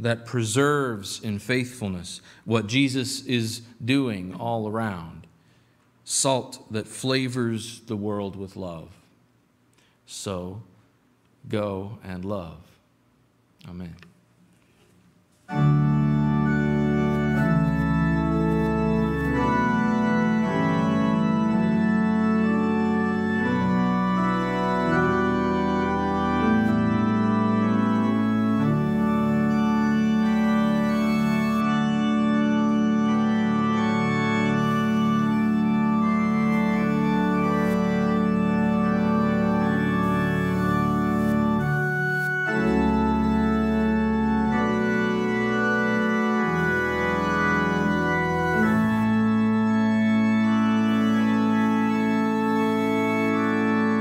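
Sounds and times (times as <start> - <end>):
church organ chords: 0.0 - 5.3, 15.4 - 54.0.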